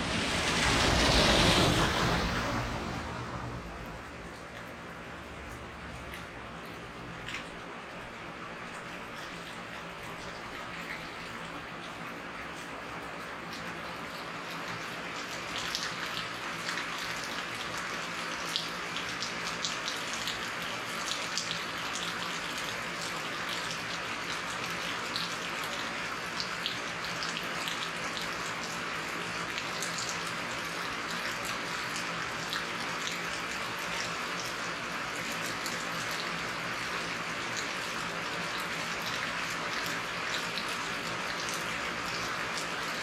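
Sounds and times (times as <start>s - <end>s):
steady rainfall: 0.0s - 43.0s.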